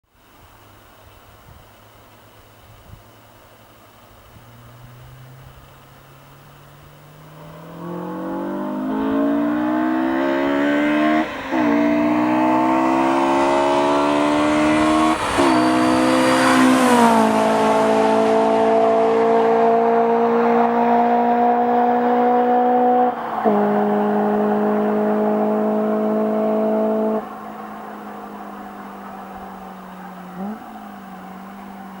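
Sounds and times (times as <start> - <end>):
gear changes: 3.9 - 32.0
car engine accelerating past: 4.2 - 32.0.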